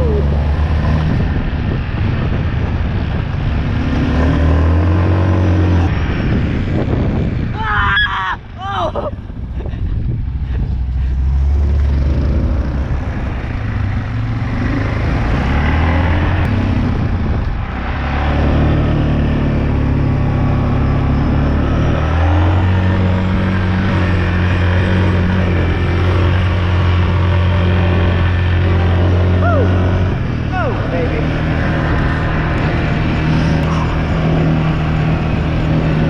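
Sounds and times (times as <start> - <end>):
off-road vehicle engine revving: 0.0 - 7.0, 10.4 - 36.0.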